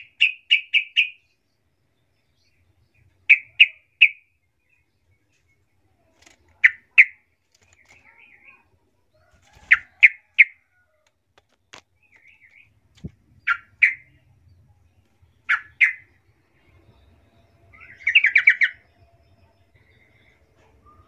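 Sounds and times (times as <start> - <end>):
bird chirping: 0.0 - 10.8, 11.4 - 21.0.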